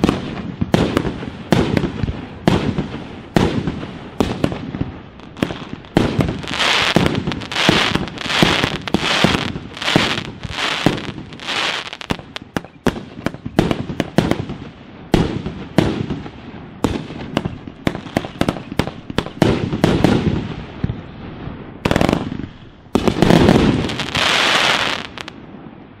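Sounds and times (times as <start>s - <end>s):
fireworks bangs: 0.0s - 25.8s
fireworks crackling: 0.0s - 25.8s.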